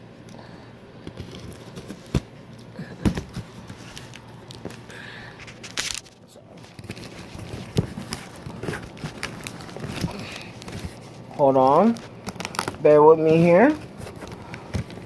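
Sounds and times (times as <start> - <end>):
cardboard rustling and tearing: 1.1 - 2.3, 3.0 - 15.0.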